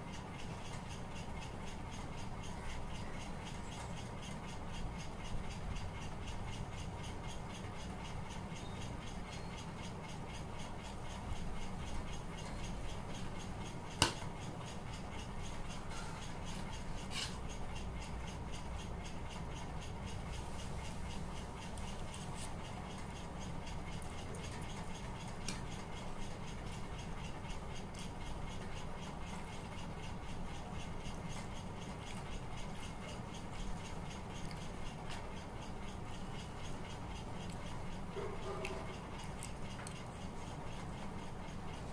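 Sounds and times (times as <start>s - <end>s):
low room hum: 0.0s - 41.9s.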